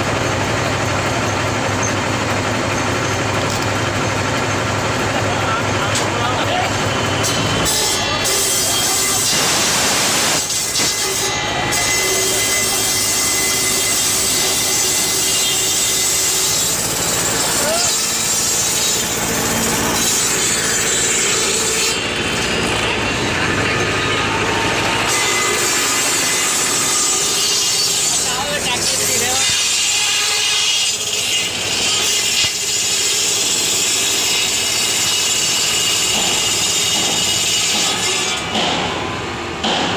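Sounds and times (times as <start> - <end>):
constant mechanical hum: 0.0 - 39.9
saw machine running: 0.0 - 39.9.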